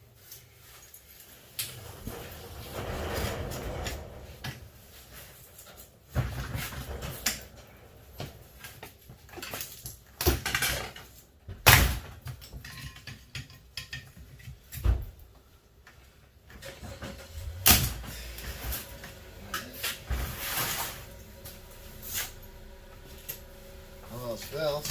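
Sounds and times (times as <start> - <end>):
metal clanks and scrapes: 0.4 - 11.2, 12.3 - 14.8, 16.5 - 24.9.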